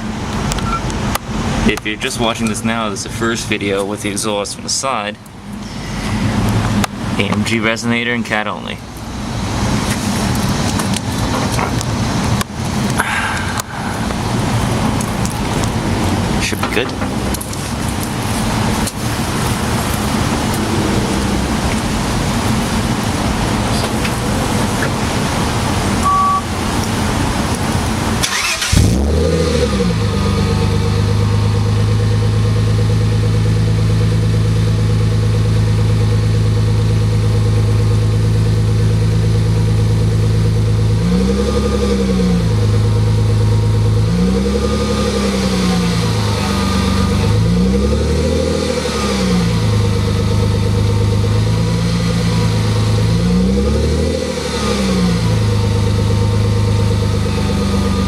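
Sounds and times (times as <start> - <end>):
car engine starting and idling: 0.0 - 58.0
engine revving: 9.2 - 58.0.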